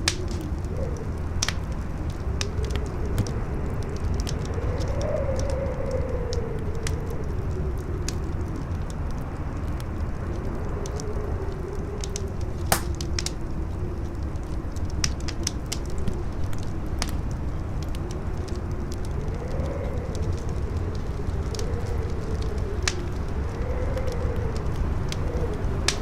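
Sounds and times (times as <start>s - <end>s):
campfire crackling and popping: 0.0s - 26.0s
howling wind: 0.0s - 26.0s.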